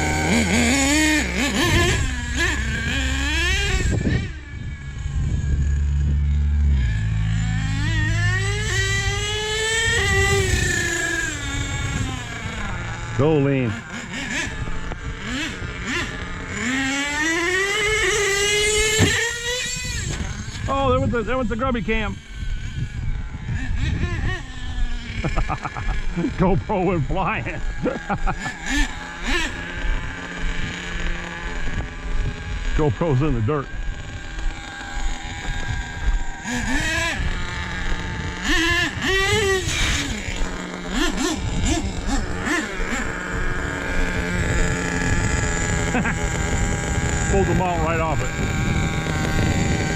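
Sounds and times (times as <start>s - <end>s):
small rc truck engine revving: 0.0s - 49.9s.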